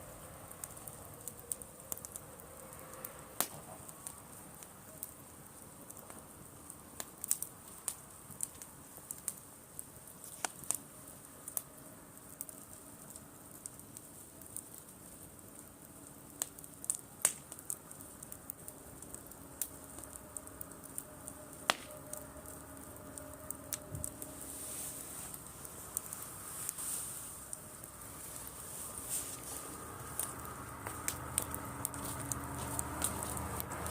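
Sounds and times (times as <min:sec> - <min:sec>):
bonfire crackling: 0:00.0 - 0:33.9.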